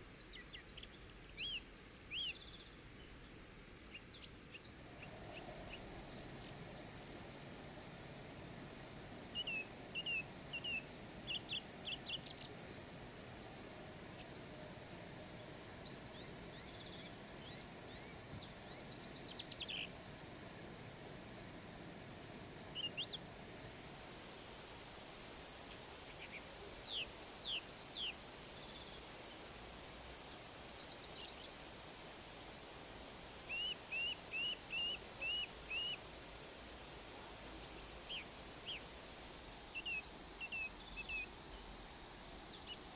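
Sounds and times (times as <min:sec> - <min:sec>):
outdoor background hiss: 0:00.0 - 0:42.9
wild birds chirping: 0:00.0 - 0:42.9.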